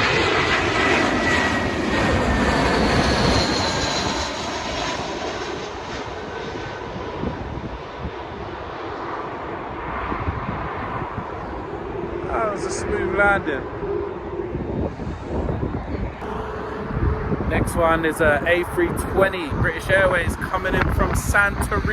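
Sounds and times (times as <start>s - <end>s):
jet airliner passing with whine: 0.0s - 21.9s.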